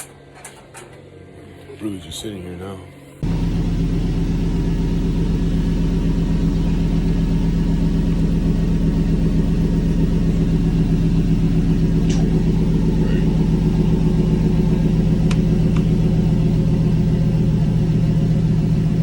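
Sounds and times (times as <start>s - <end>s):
truck engine idling: 3.2s - 19.0s.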